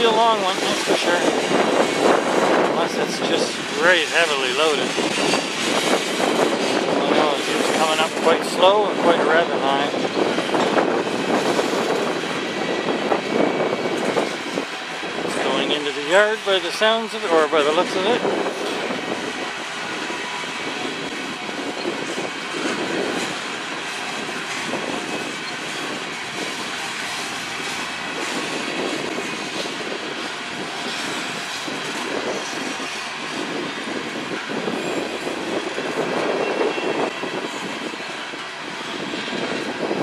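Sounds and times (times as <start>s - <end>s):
train wheels rumbling on rails: 0.0s - 40.0s
wheels clattering over rail joints: 0.0s - 40.0s.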